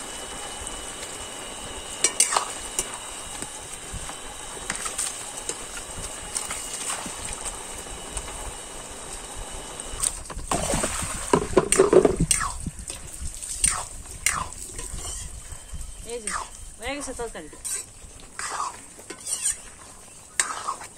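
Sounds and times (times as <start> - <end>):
pot simmering hiss: 0.0 - 10.3, 11.3 - 20.9.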